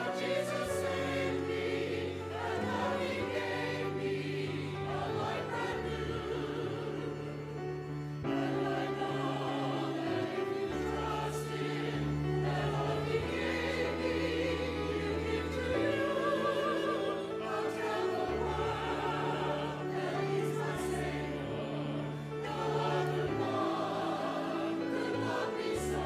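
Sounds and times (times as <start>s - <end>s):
church choir singing: 0.0s - 26.0s.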